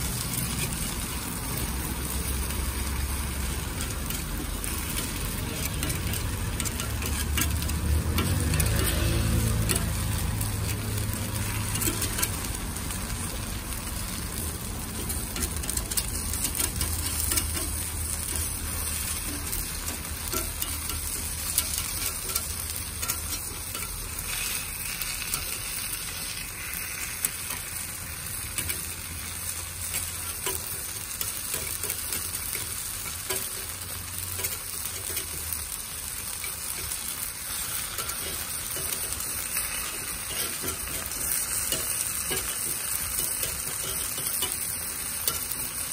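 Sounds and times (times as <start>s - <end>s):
batter sizzling in pan: 0.0s - 45.9s
metal pick scraping and tapping pan: 0.0s - 45.9s.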